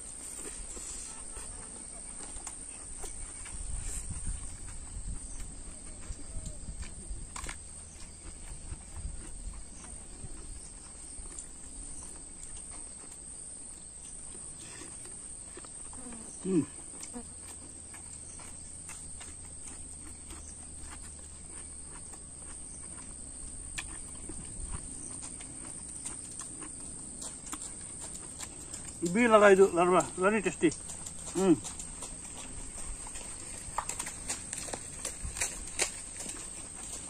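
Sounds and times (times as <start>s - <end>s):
man chewing: 0.0s - 29.2s, 30.7s - 37.0s.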